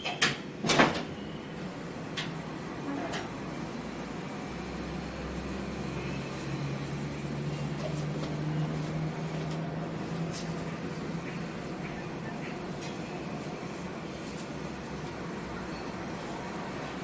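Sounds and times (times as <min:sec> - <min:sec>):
vehicle engine humming: 0:01.4 - 0:17.0.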